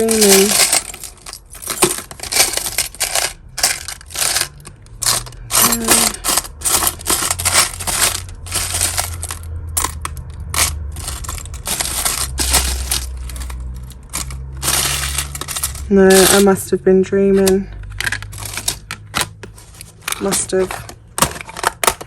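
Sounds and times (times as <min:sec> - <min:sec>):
metal jewellery clinking and jangling: 0:00.0 - 0:16.7, 0:17.3 - 0:22.0.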